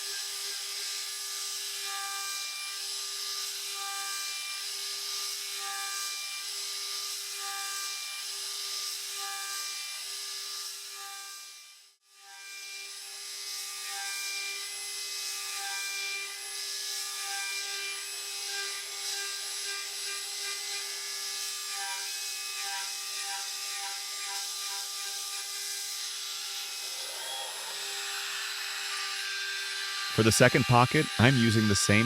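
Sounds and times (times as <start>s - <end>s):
router cutting metal whine: 0.0s - 32.0s.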